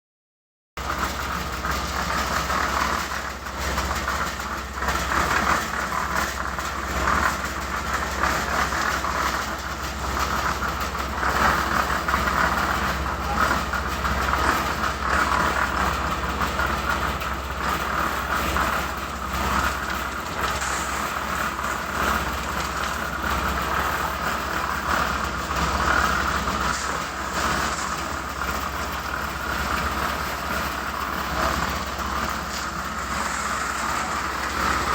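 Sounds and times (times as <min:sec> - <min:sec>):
machinery humming and rattling: 0:00.8 - 0:34.9.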